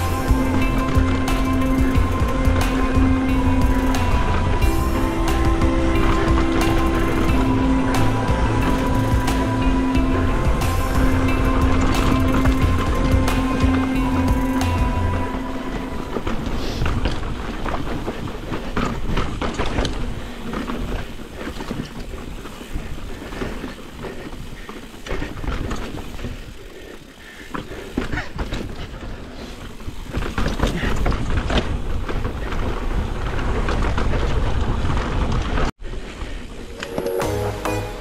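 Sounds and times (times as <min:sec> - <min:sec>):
mountain bike rumbling over rock: 0:00.0 - 0:27.0, 0:27.6 - 0:35.7
bike knocks and rattles: 0:00.0 - 0:35.7.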